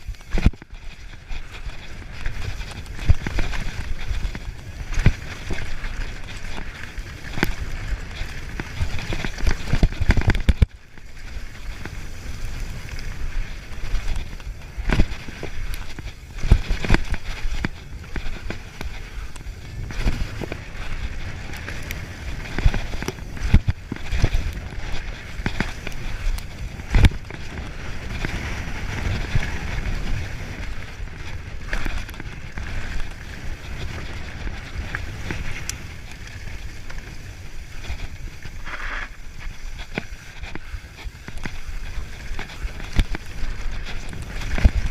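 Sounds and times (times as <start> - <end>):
bike rattling and knocking: 0.0 - 44.9
bike tyres hissing on dirt: 0.0 - 44.9
wind rumble on microphone: 0.0 - 44.9.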